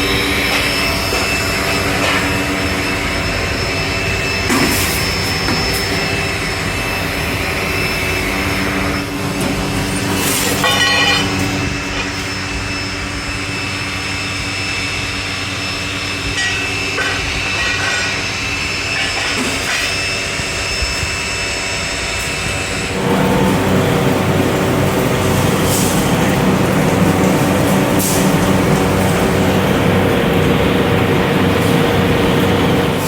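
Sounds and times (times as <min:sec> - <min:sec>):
factory machinery humming: 0:00.0 - 0:33.0.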